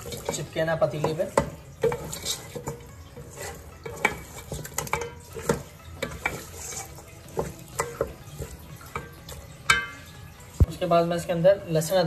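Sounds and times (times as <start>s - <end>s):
spatula knocking and scraping a pot: 0.0s - 10.7s
meat sizzling lightly: 0.0s - 10.9s.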